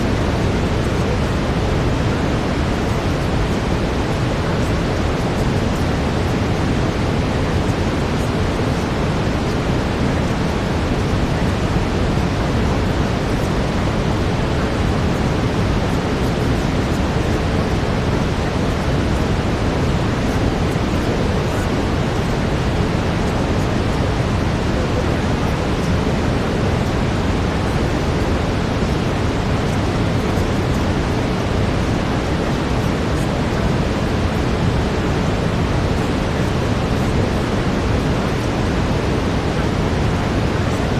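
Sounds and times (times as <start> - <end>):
brown noise rushing hiss: 0.0 - 40.9.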